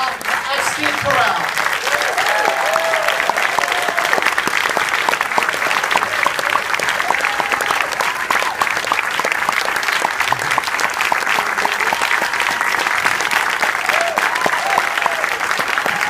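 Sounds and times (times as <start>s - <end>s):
audience applauding: 0.0s - 16.0s
crowd cheering: 0.0s - 16.0s.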